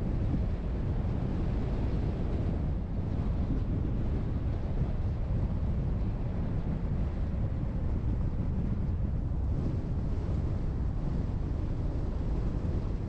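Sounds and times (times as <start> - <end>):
car driving road and wind noise: 0.0 - 13.0.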